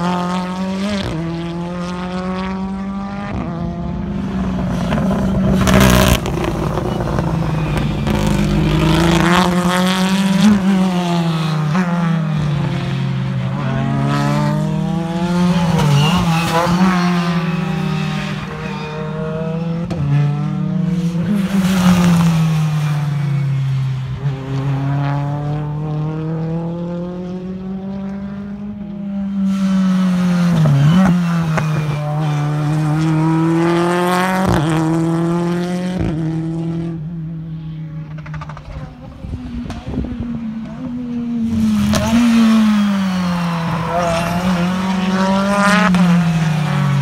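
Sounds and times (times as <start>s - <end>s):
racing car engines: 0.0s - 47.0s.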